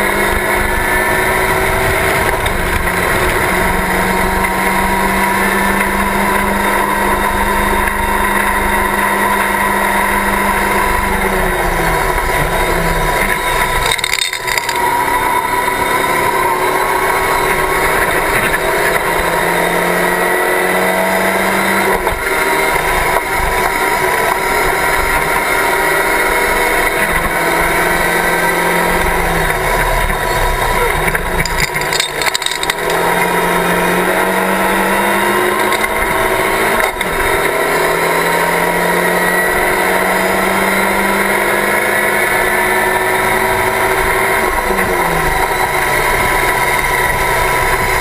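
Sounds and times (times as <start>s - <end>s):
race car engine revving: 0.0s - 48.0s
wind and road noise: 0.0s - 48.0s.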